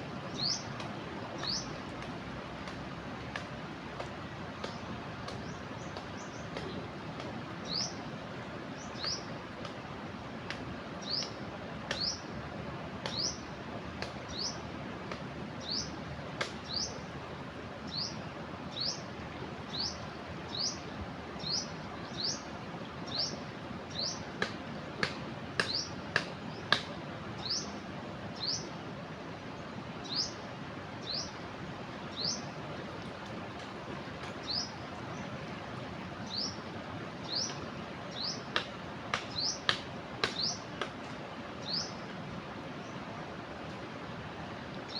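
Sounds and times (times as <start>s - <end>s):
rushing river: 0.0s - 44.9s.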